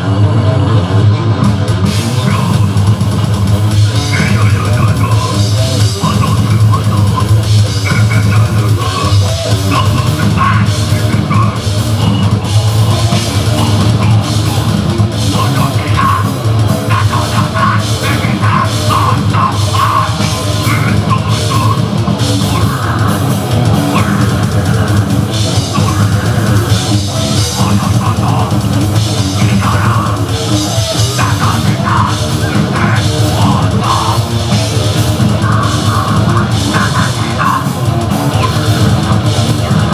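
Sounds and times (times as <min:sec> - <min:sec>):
bass guitar: 0:00.0 - 0:39.9
distorted electric guitar: 0:00.0 - 0:39.9
fast drum kit: 0:00.0 - 0:39.9.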